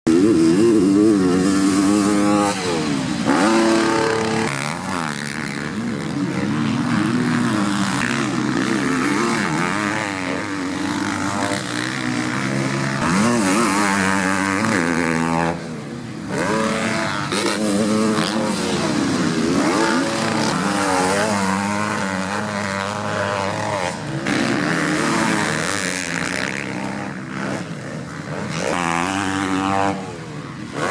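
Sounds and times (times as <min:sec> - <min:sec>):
motocross bikes revving: 0:00.1 - 0:30.9.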